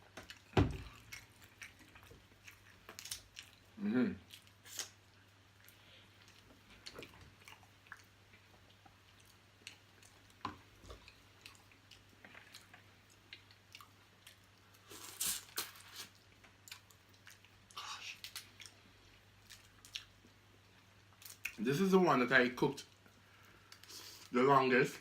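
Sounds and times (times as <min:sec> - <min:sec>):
person chewing and crunching food: 0:00.0 - 0:21.6.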